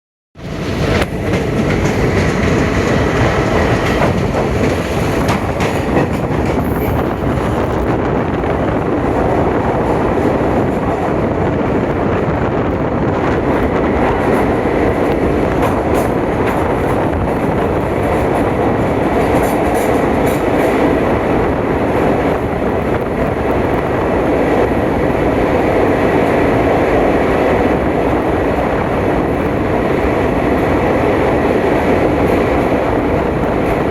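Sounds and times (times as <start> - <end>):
rail joint clicks: 0.4 - 33.9
train wheels rumbling on track: 0.4 - 33.9.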